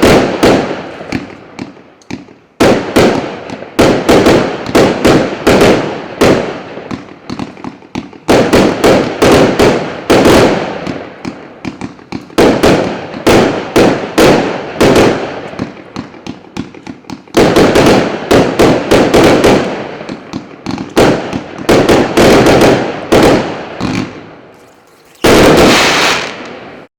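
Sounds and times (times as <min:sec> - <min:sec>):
firework shots and bursting pops: 0:00.0 - 0:26.9.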